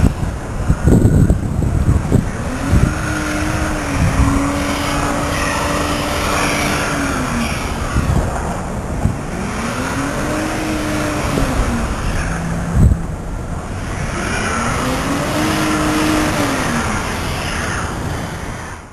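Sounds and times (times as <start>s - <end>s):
vehicle engine revving: 0.0s - 18.7s.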